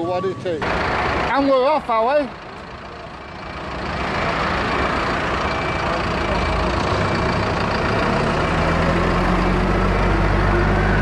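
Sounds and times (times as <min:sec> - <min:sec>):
heavy diesel engine: 0:00.0 - 0:11.0.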